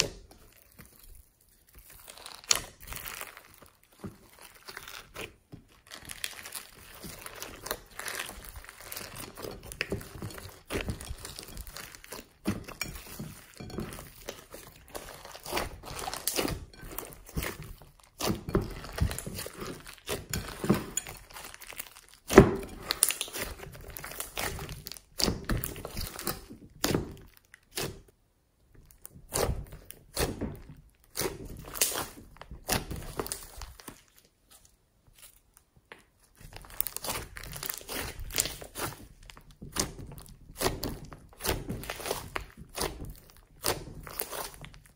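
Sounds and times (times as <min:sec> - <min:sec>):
slime squelching and popping: 0:00.0 - 0:44.9.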